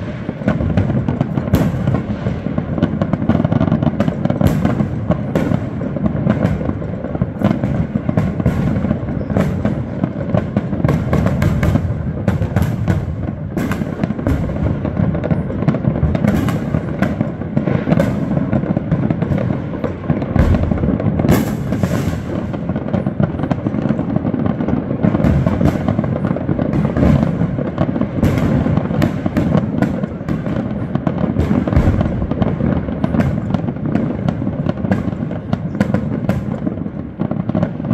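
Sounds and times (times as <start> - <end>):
fireworks crackling and popping: 0.0 - 37.9
sharp loud firework crack: 0.0 - 37.9.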